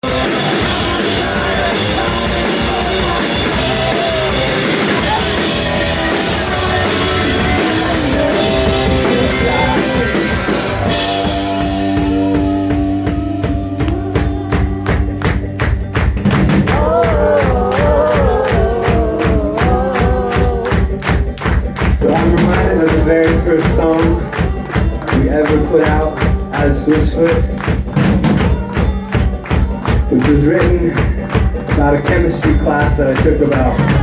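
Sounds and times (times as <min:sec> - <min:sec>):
live rock band: 0:00.0 - 0:34.0.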